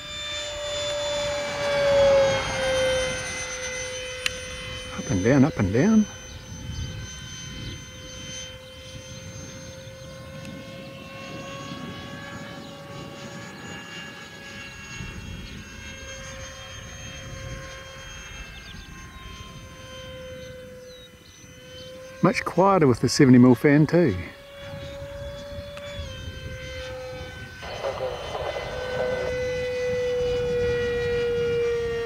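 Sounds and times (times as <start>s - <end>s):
model jet fan whine: 0.0s - 32.0s
wind rumble on microphone: 0.6s - 23.2s, 23.8s - 32.0s.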